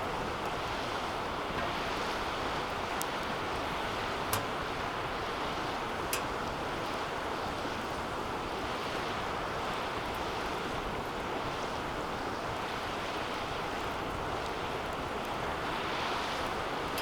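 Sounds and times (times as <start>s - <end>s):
fire crackles: 0.0s - 17.0s.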